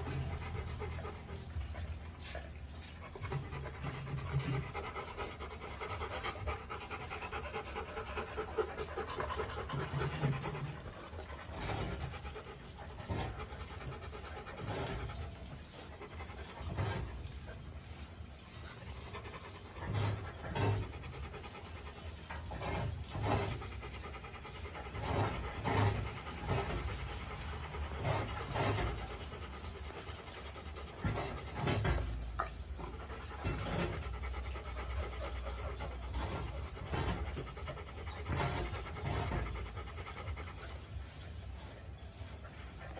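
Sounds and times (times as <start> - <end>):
dog panting: 0.0 - 42.9.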